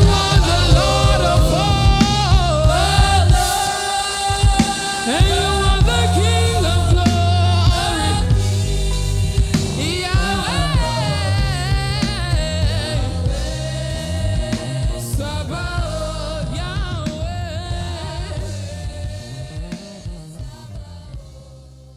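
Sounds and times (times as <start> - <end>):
gospel singing over a band: 0.0 - 21.9.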